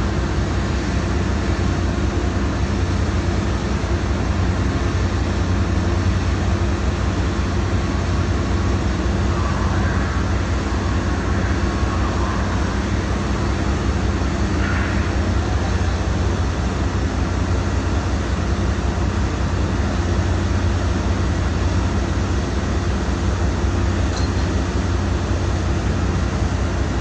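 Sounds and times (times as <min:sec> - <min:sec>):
ship diesel engine drone: 0:00.0 - 0:27.0.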